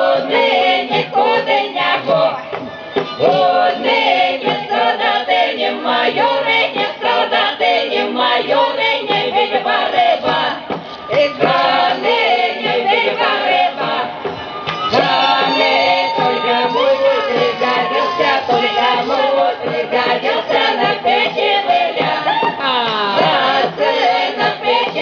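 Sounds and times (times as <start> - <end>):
women singing in chorus: 0.0 - 25.0.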